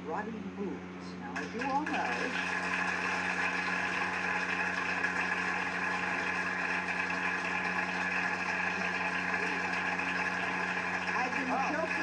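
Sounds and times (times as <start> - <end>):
low steady hum: 0.0 - 12.0
audience applauding through speaker: 1.4 - 12.0.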